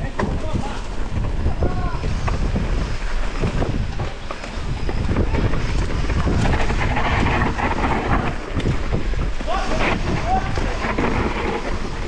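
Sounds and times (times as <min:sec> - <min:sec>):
bike knocking and rattling: 0:00.0 - 0:12.0
tyres rolling over dirt: 0:00.0 - 0:12.0
wind buffeting microphone: 0:00.0 - 0:12.0.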